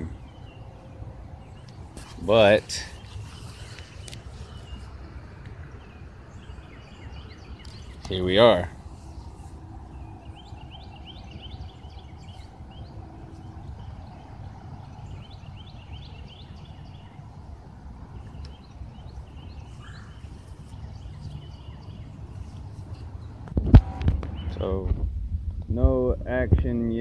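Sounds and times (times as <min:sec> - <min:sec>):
birds chirping: 0:00.0 - 0:24.9
wind rumble on microphone: 0:00.0 - 0:27.0.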